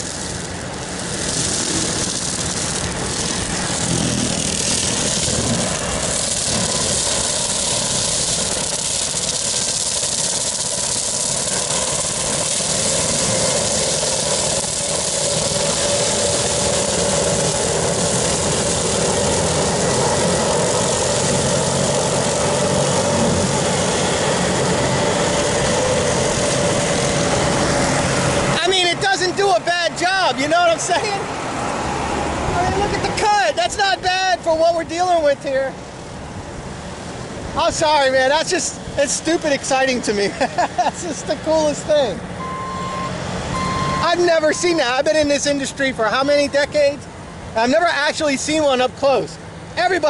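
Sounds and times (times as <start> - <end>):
brush-cutter mowing grass: 0.0 - 35.4, 37.2 - 50.0
diesel engine running under load: 0.0 - 50.0.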